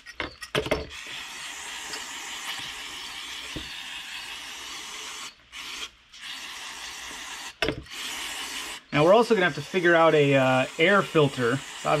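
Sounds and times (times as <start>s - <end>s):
aerosol spray hissing: 0.9s - 12.0s.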